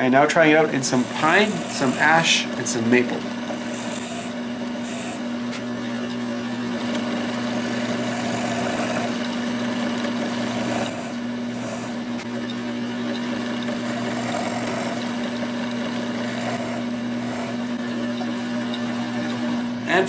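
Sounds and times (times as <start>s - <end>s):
drill motor humming: 0.0s - 20.0s
drill bit boring into wood: 0.1s - 20.0s.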